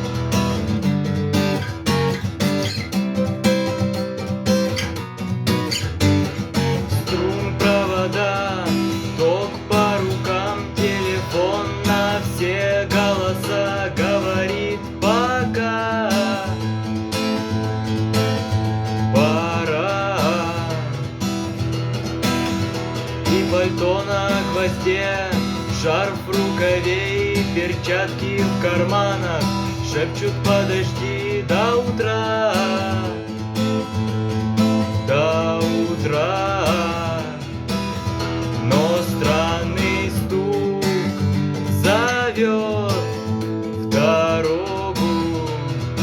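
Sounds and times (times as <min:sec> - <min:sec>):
acoustic guitar strumming: 0:00.0 - 0:46.0
person singing: 0:06.7 - 0:21.8, 0:22.4 - 0:46.0.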